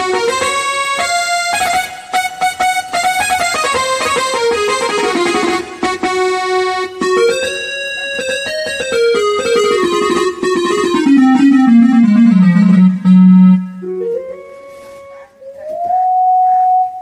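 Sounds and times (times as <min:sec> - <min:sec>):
electronic keyboard melody: 0:00.0 - 0:17.0.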